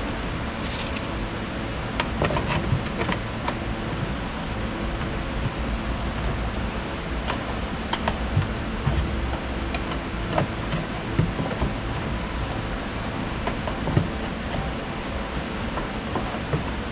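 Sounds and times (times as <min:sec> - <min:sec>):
steady hiss: 0:00.0 - 0:02.2, 0:02.8 - 0:16.9.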